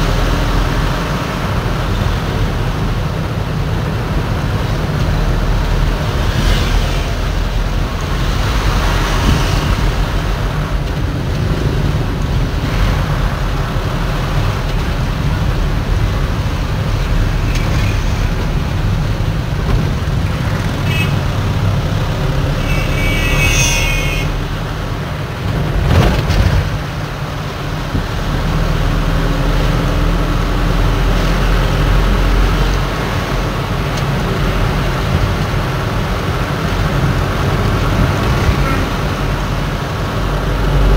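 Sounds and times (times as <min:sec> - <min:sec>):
heavy trucks driving past: 0:00.0 - 0:40.9
road noise: 0:00.0 - 0:40.9.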